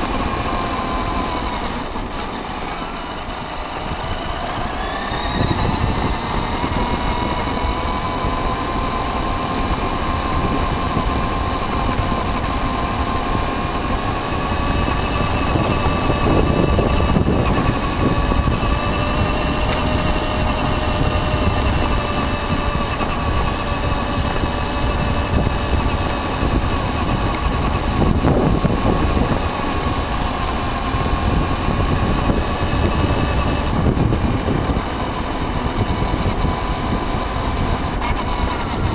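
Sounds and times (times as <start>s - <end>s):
rc car motor whine: 0.0s - 38.9s
tyres rumbling on gravel: 0.0s - 38.9s.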